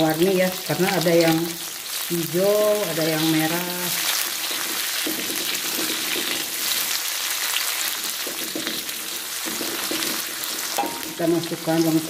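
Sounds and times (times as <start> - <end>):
vegetables sizzling in hot oil: 0.0 - 12.0
spatula stirring in wok: 0.7 - 11.8.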